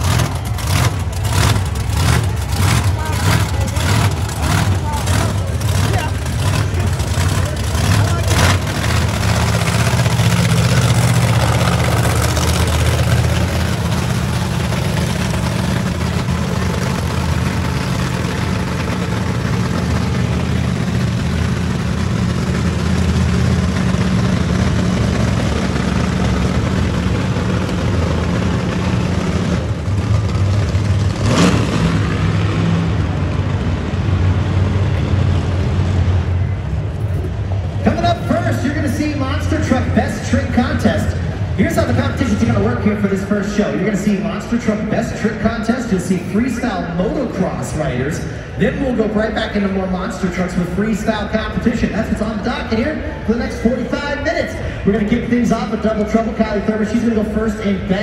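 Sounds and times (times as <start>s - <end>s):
monster truck engines revving: 0.0s - 58.0s.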